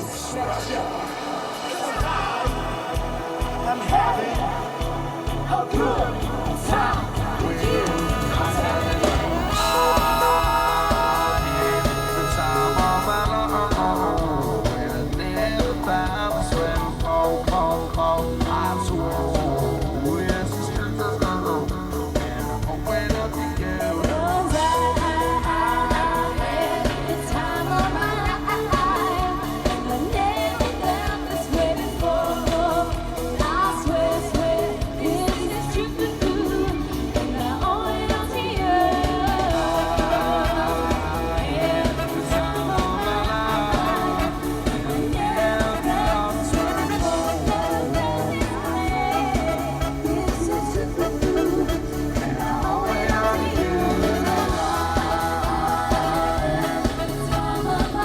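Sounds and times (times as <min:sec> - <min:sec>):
band music with singing: 0:00.0 - 0:58.0.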